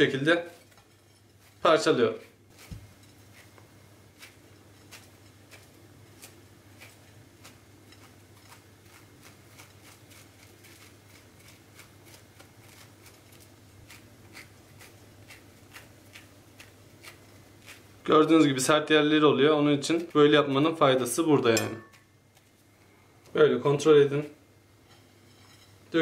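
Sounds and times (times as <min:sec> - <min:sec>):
dry pastry strands rustling: 0:00.0 - 0:25.5
low steady hum: 0:00.0 - 0:26.0.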